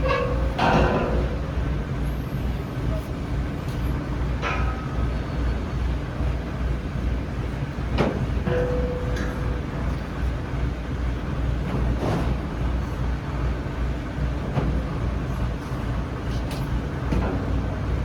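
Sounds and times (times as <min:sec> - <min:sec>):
crane engine rumbling: 0:00.0 - 0:18.0.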